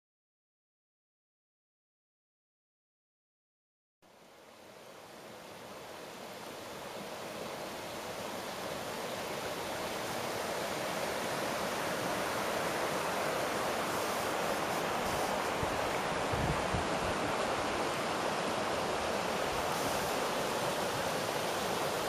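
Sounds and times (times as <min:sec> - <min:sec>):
river rushing over stones: 0:04.1 - 0:22.0.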